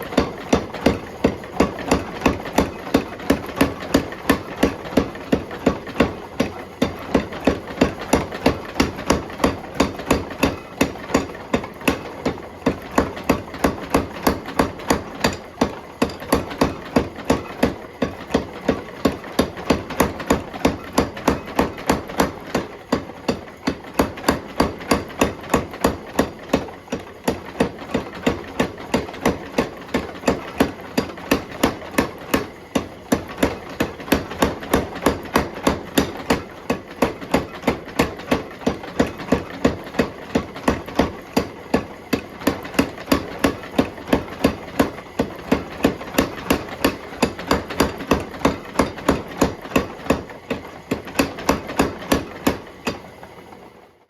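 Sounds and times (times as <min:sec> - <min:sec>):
steady running noise: 0:00.0 - 0:54.0.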